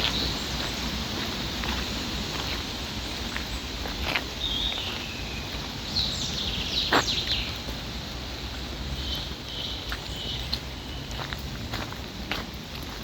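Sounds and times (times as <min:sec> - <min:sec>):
small birds chirping: 0:00.0 - 0:07.8, 0:08.5 - 0:11.5.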